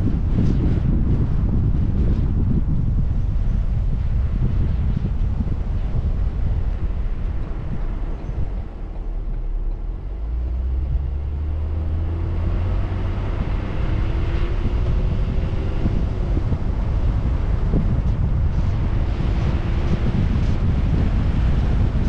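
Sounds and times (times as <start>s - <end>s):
road rumble: 0.0s - 22.0s
wind noise on microphone: 0.0s - 22.0s
faint engine tone: 2.6s - 22.0s.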